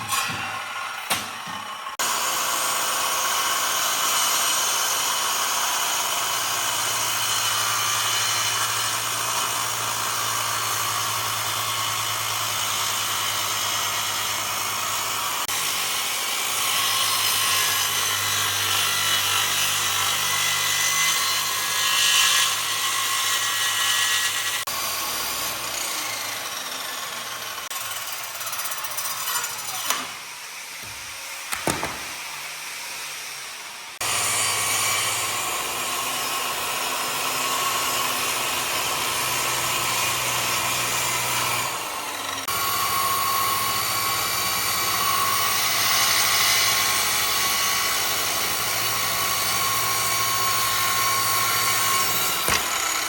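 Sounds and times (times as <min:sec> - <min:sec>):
power tool cutting wood: 0:00.0 - 0:53.0.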